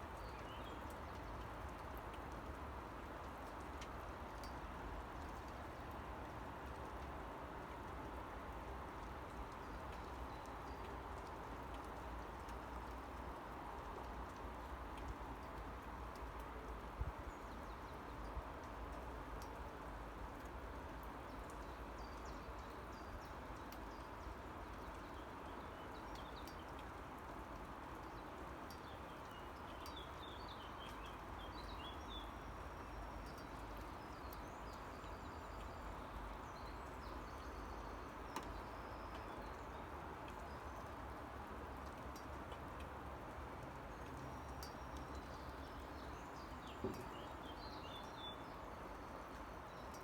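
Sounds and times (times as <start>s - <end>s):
faint outdoor hiss: 0.0s - 50.0s.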